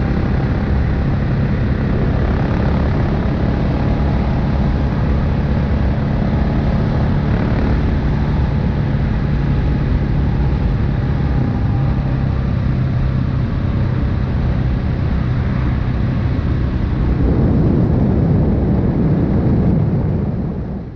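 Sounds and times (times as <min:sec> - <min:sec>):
motorcycle engine and exhaust running: 0:00.0 - 0:20.9.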